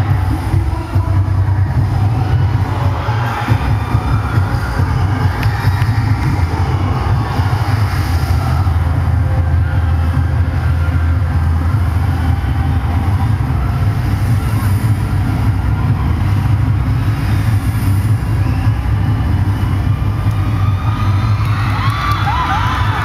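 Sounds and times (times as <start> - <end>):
cheerdance music with heavy bass: 0.0 - 23.0
crowd in a gymnasium: 0.0 - 23.0.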